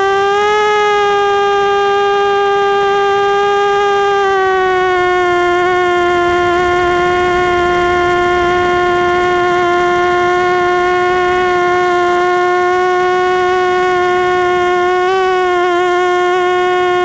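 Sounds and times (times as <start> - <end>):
drone propellers whining: 3.3 - 17.0.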